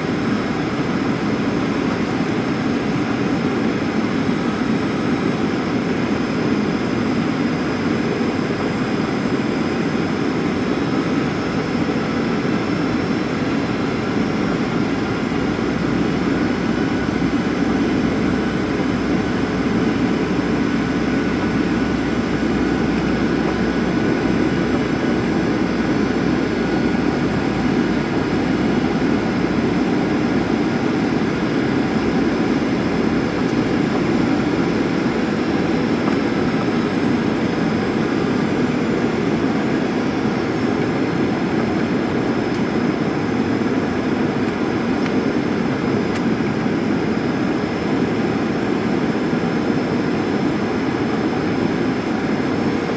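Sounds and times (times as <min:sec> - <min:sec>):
aircraft cabin engine and airflow rush: 0:00.0 - 0:52.9.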